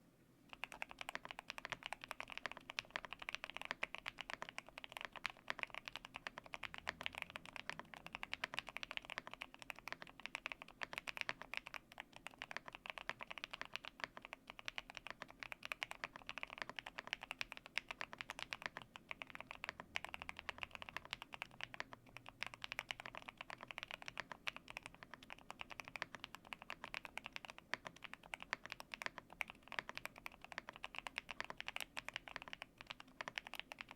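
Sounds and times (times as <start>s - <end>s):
fast mechanical keyboard typing: 0.5s - 33.9s.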